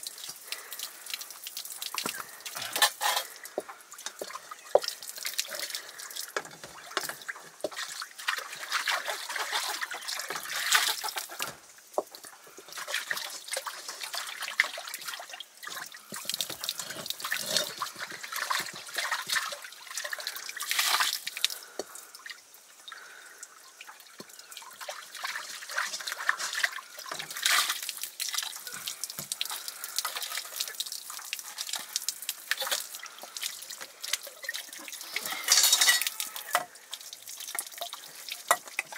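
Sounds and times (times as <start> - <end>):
water splashing and dripping: 0.0 - 38.9.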